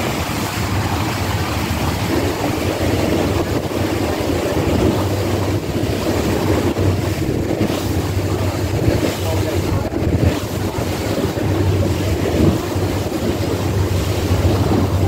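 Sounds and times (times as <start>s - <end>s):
boat engine drone: 0.0s - 15.0s
water washing past hull: 0.0s - 15.0s
wind buffeting microphone: 0.0s - 15.0s.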